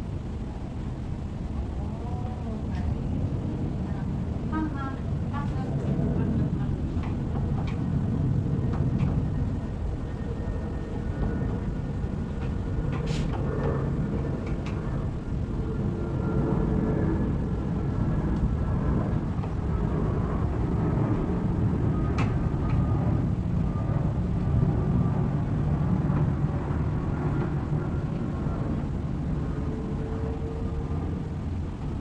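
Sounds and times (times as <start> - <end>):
low rumble: 0.0 - 32.0.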